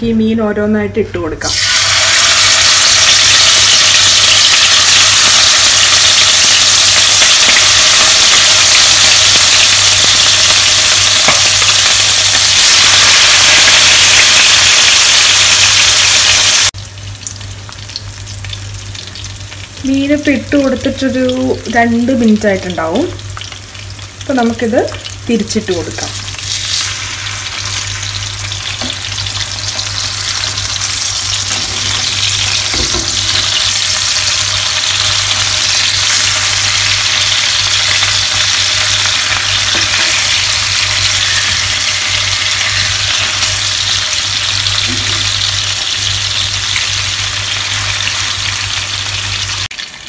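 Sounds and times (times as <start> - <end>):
fish sizzling in hot oil: 1.5 - 20.2, 26.2 - 50.0.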